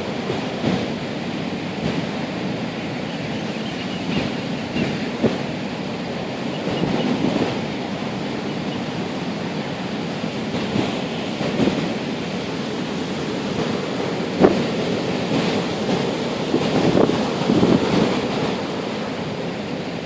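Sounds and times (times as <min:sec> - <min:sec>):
waves crashing on shore: 0:00.0 - 0:20.0
wind buffeting microphone: 0:00.0 - 0:20.0.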